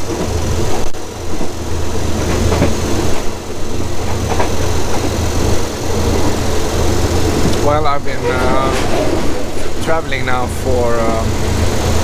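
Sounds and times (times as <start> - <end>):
train rumbling and rattling: 0.0 - 12.0.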